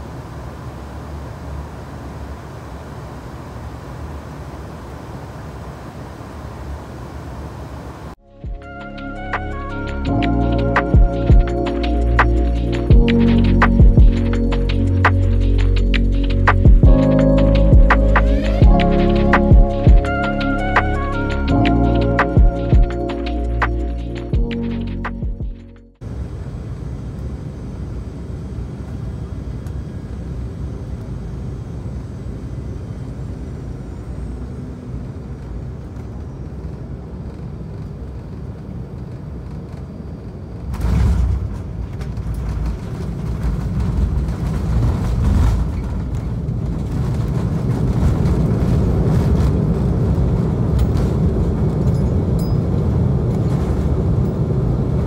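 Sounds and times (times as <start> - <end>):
jet cabin rumble: 0.0 - 55.0.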